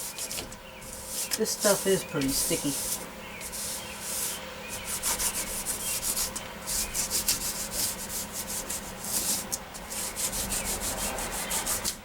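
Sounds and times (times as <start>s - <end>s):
hand roller scraping over foil mat: 0.0s - 12.0s.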